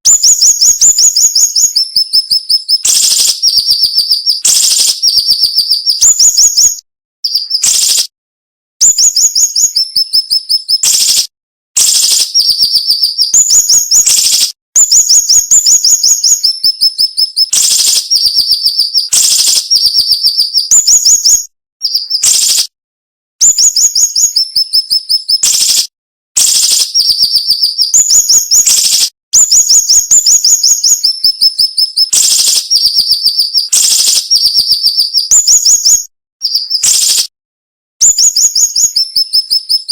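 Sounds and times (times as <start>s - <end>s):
bird singing high sharp notes: 0.1s - 8.1s, 8.8s - 22.7s, 23.4s - 37.3s, 38.0s - 39.9s.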